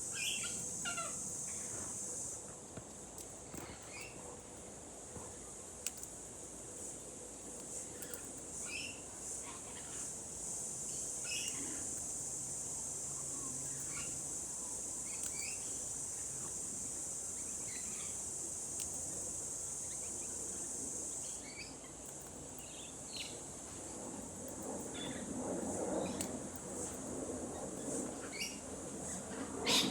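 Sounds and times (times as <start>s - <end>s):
insect drone: 0.0s - 29.9s.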